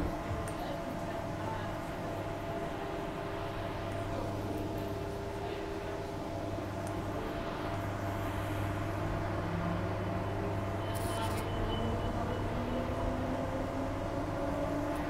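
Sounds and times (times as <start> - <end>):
train motor hum and whine: 0.0 - 15.0.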